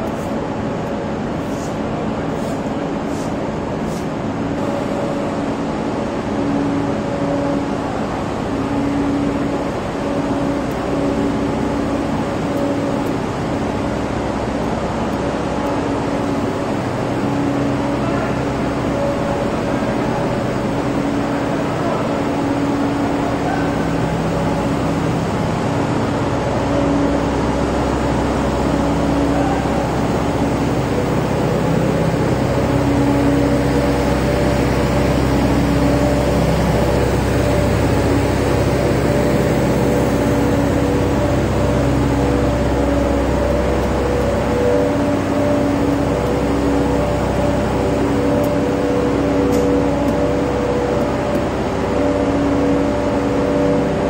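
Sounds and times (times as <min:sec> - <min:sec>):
machinery droning: 0:00.0 - 0:54.0
humming tones: 0:04.6 - 0:54.0.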